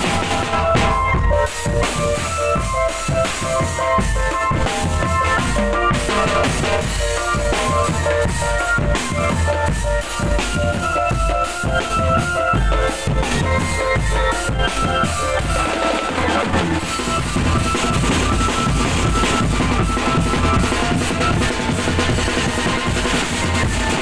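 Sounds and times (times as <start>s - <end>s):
fast drum beats: 0.0s - 24.0s
melody of held notes: 0.0s - 24.0s.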